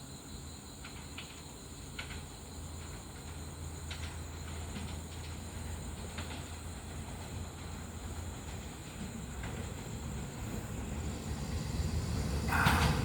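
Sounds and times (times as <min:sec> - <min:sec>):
train rumbling: 0:00.1 - 0:13.0.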